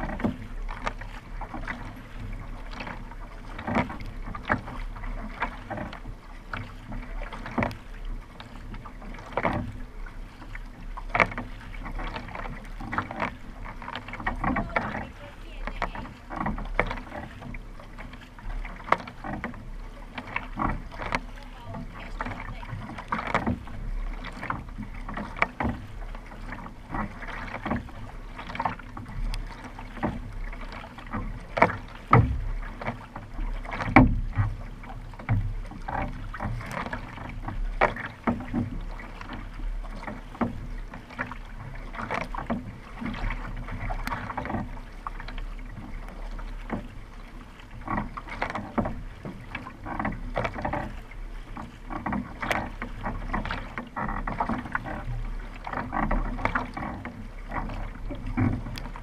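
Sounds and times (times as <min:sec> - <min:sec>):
paddle blades splashing water: 0:00.0 - 0:59.0
water rushing along hull: 0:00.0 - 0:59.0.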